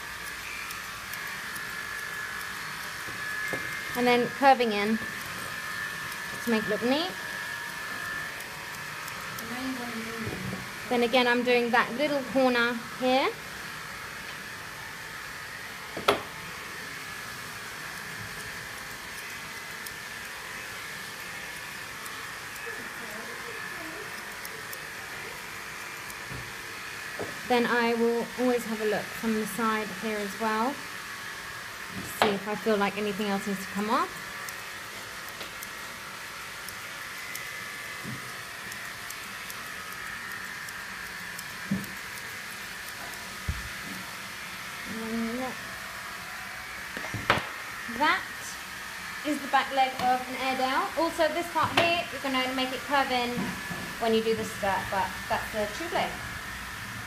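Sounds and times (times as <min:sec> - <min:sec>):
machine hiss with high whine: 0:00.0 - 0:57.0
steady mechanical hum: 0:00.0 - 0:57.0.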